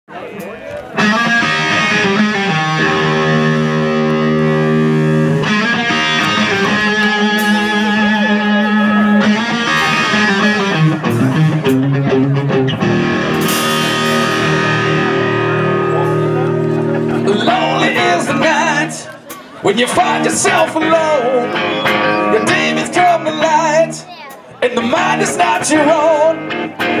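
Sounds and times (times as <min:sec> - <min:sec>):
live rock band playing: 0:00.8 - 0:27.0
distorted electric guitar chords: 0:01.0 - 0:27.0.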